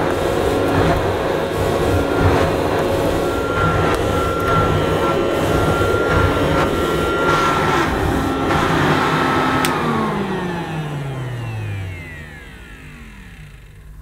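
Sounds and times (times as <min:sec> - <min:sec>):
vacuum nozzle pushed over carpet: 0:00.0 - 0:13.7
handheld vacuum cleaner motor whine: 0:00.0 - 0:14.0.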